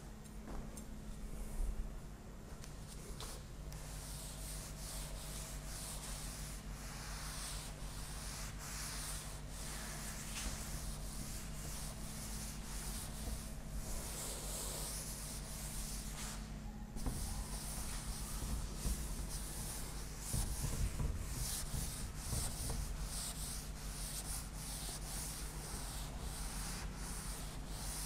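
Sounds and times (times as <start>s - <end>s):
cloth swishing on chalkboard: 2.9s - 28.0s.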